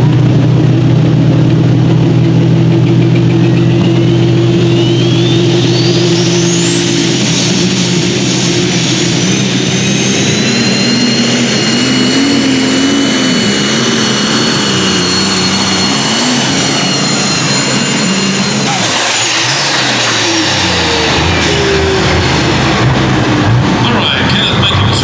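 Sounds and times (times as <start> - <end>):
engine at full throttle: 0.0 - 25.0
turbo whine: 0.0 - 25.0.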